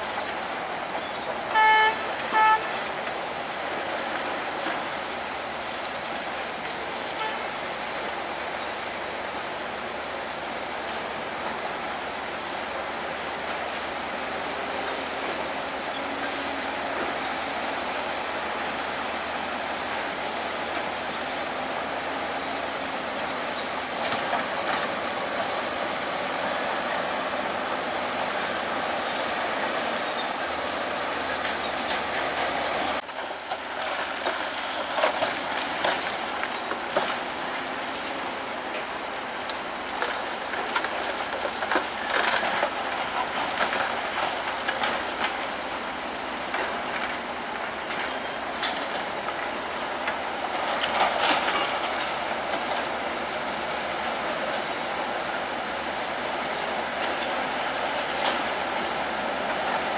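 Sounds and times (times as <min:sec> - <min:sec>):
heavy machinery diesel engines clattering: 0:00.0 - 0:59.9.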